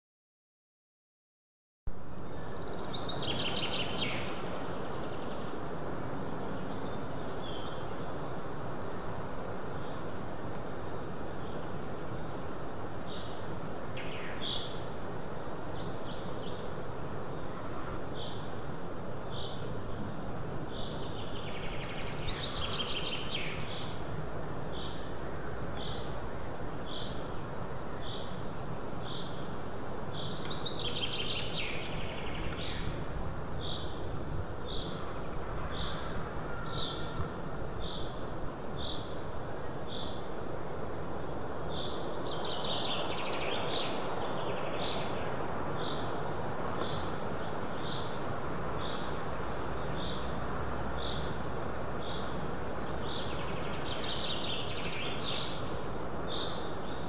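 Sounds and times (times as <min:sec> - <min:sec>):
wind hiss: 0:01.9 - 0:57.0
songbirds singing: 0:02.2 - 0:57.0.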